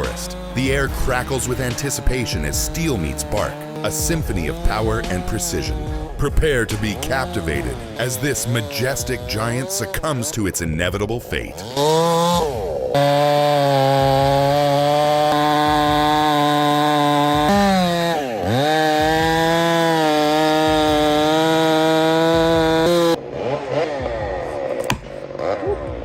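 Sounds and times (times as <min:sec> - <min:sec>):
chainsaw cutting at full throttle: 0:00.0 - 0:26.0.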